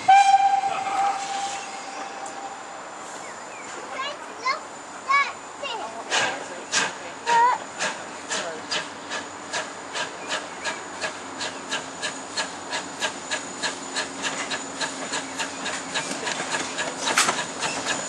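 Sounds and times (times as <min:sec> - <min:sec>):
steam locomotive chuffing: 0:00.0 - 0:18.0.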